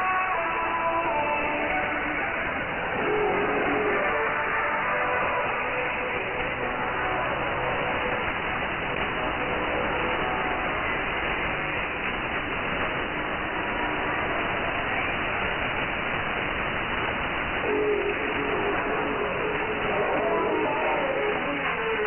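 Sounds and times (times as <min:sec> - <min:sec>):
music through radio static: 0:00.0 - 0:22.0
shortwave radio static: 0:00.0 - 0:22.0.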